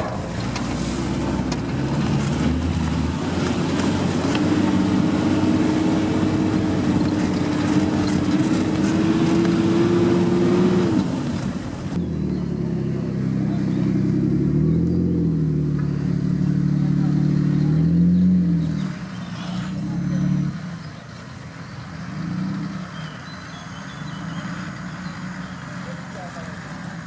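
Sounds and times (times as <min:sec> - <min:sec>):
vehicle engine under load: 0:00.0 - 0:27.0.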